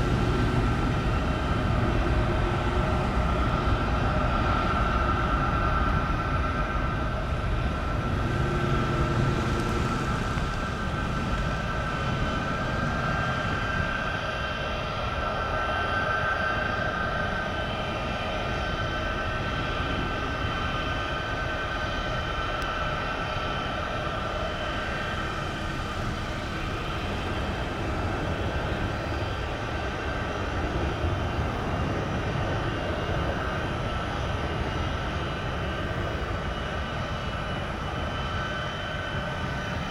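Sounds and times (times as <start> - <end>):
jet engines whining and rumbling: 0.0 - 39.9.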